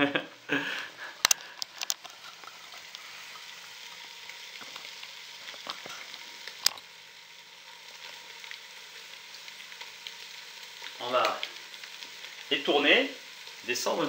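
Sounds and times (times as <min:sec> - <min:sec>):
livers sizzling in a pan: 0:00.0 - 0:14.0.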